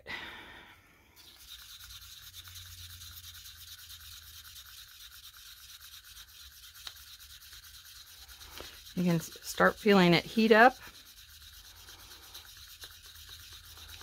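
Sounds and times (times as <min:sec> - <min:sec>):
stick scraping a mixing cup: 0:01.2 - 0:14.0.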